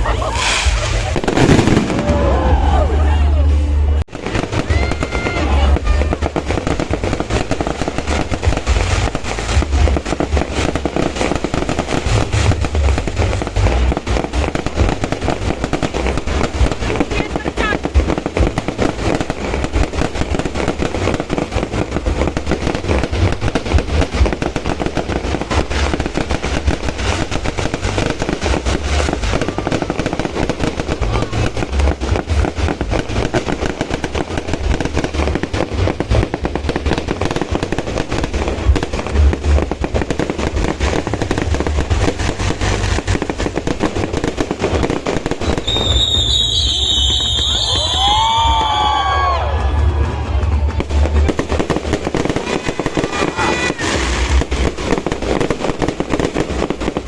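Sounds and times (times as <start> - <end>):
deep fireworks booms: 0.0 - 57.0
fireworks bangs and crackles: 0.0 - 57.0.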